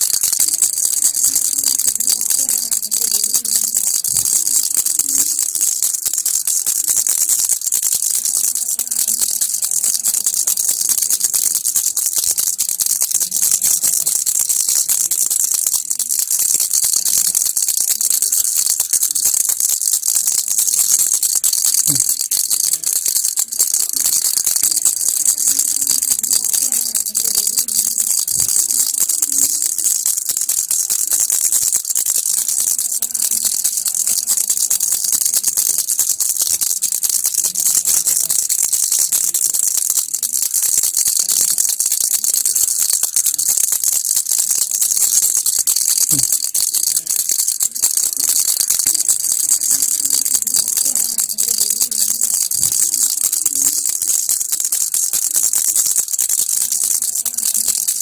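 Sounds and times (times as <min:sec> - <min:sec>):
toy rattle shaking: 0:00.0 - 0:58.0.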